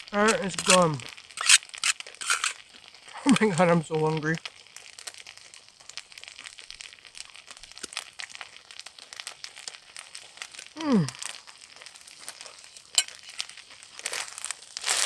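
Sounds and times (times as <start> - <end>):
small wood fire crackling: 0.0 - 15.0.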